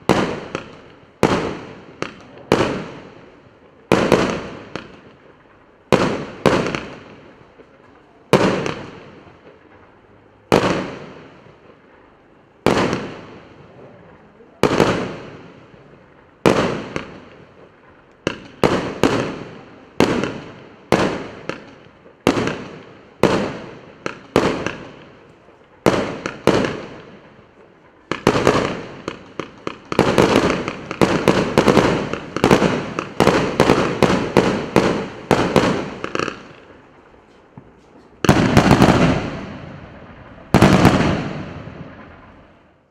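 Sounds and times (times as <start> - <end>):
firework cake firing reports: 0.0 - 42.9.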